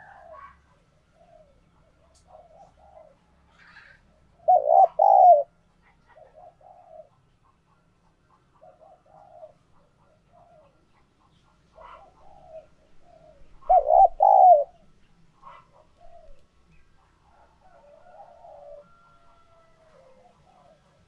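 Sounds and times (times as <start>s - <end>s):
dove cooing: 0.0s - 7.3s, 8.5s - 11.0s, 11.8s - 16.4s, 17.2s - 21.0s.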